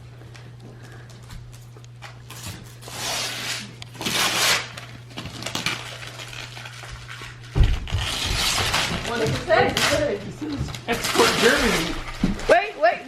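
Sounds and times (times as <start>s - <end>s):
wrapping paper tearing: 2.0s - 12.8s.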